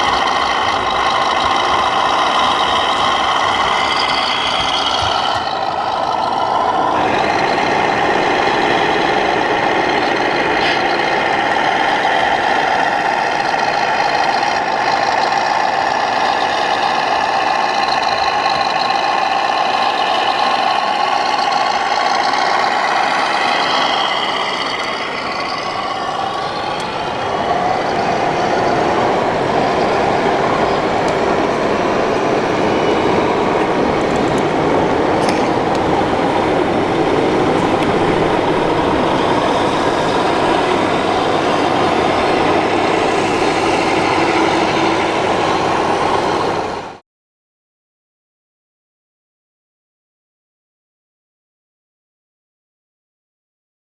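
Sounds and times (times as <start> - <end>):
model truck engine idling: 0.0 - 47.0.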